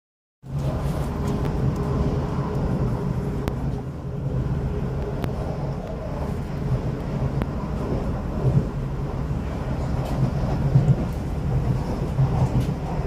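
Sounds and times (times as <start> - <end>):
train wheels rumbling on rail: 0.4 - 13.0.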